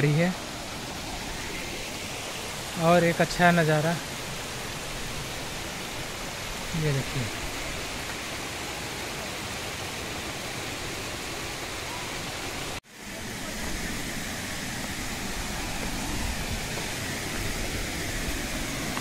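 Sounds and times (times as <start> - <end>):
water cascading over rocks: 0.0 - 19.0.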